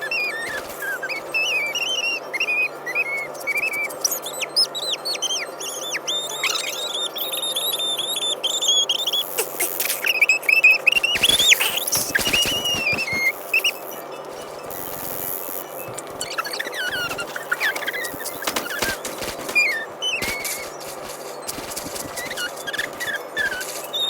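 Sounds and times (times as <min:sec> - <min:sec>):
high-pitched squeaky chirps: 0:00.0 - 0:24.0.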